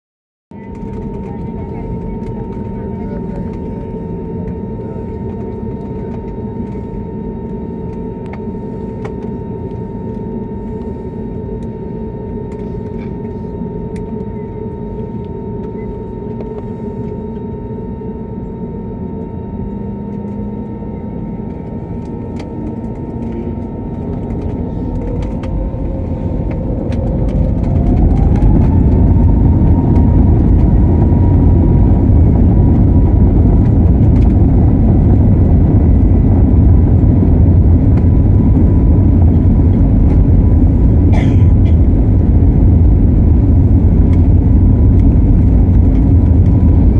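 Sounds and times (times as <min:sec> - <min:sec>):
rising engine whine: 0:00.5 - 0:46.9
jet engines roaring: 0:00.6 - 0:46.9.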